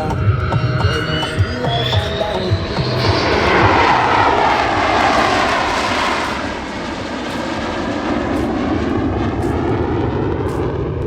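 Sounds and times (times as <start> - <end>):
aircraft engine roar passing: 0.0 - 11.0.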